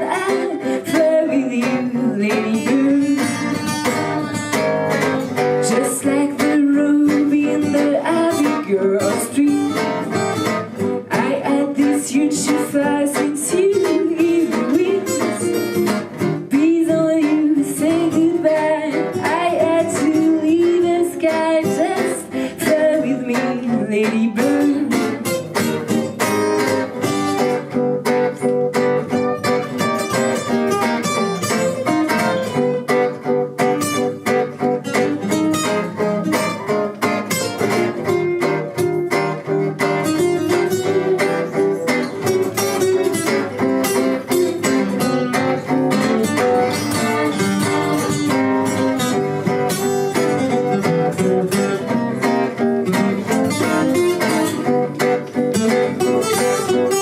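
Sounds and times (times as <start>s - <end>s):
plucked acoustic guitar music: 0.0s - 57.0s.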